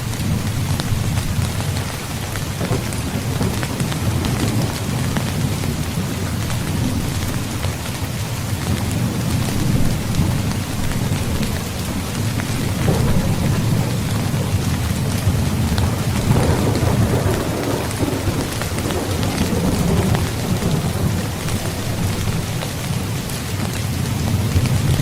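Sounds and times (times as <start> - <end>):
heavy rain falling: 0.0 - 25.0
low thunder rumble: 0.1 - 25.0.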